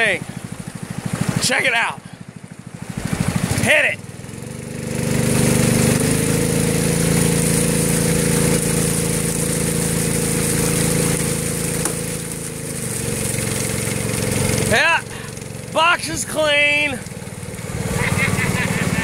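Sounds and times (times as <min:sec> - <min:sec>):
small gas engine running: 0:00.0 - 0:19.0
water blasting through sluice: 0:00.0 - 0:19.0.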